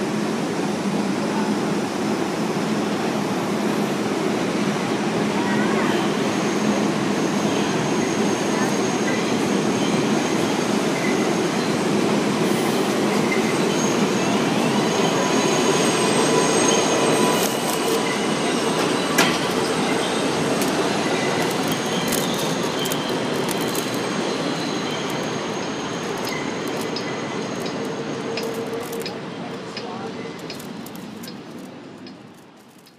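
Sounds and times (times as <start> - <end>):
train wheels on rails squealing: 5.4 - 32.2.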